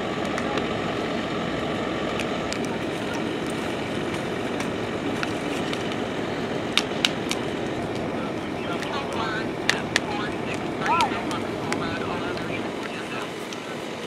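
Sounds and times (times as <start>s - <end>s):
fire truck engine drone: 0.0s - 14.0s.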